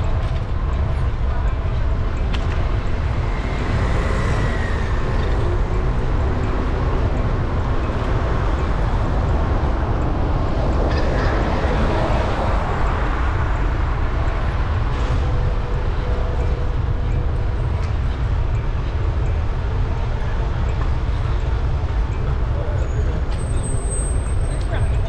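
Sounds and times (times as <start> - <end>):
city traffic noise: 0.0 - 25.0
steady low rumble: 0.0 - 25.0.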